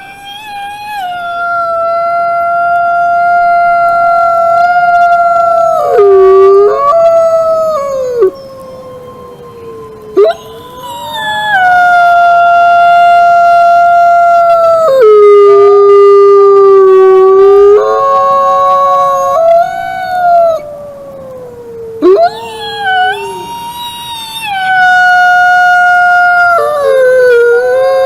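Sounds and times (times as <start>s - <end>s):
wolves howling: 0.0s - 28.0s.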